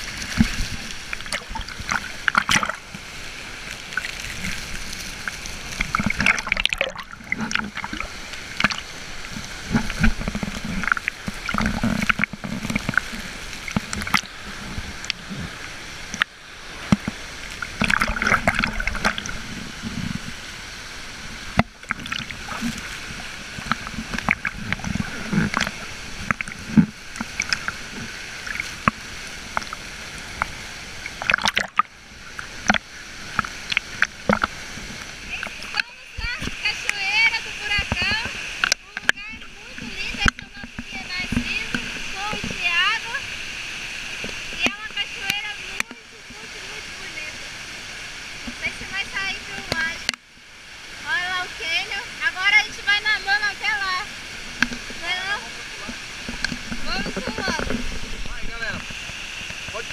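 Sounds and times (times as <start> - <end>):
rushing water: 0.0 - 59.9
water splashing and sloshing: 0.0 - 59.9.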